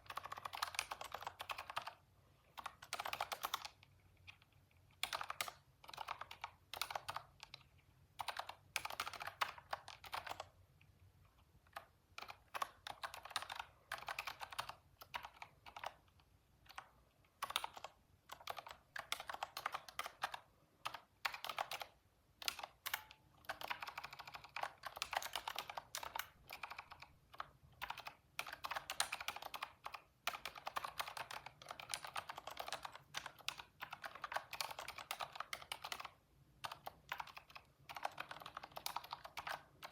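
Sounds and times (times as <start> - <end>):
computer keyboard typing: 0.0 - 10.6, 11.3 - 39.9.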